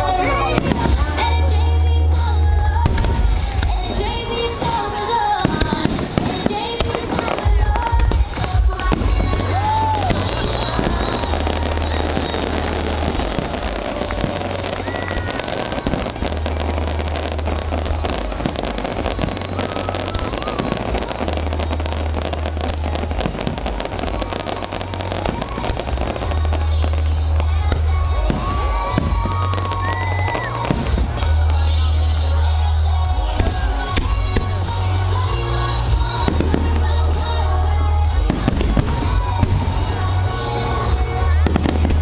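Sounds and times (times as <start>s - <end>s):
fireworks cracking and banging: 0.0s - 42.0s
music: 0.0s - 42.0s.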